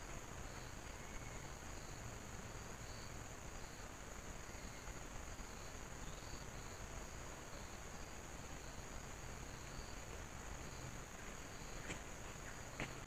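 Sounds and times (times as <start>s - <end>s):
insects calling in chorus: 0.0s - 13.0s
steady hiss: 0.0s - 13.0s.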